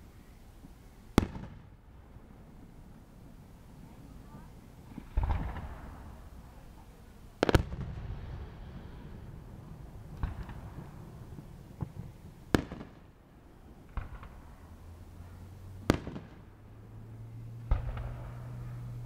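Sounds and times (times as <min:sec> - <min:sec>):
fireworks bangs: 0:00.6 - 0:19.0.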